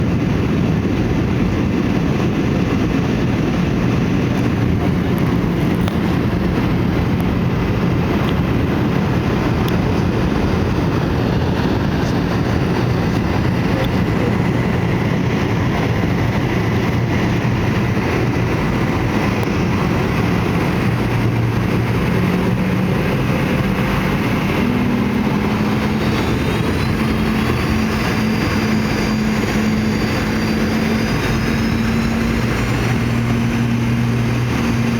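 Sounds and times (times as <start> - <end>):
aircraft cabin air rushing: 0.0 - 34.9
low engine hum: 0.0 - 34.9.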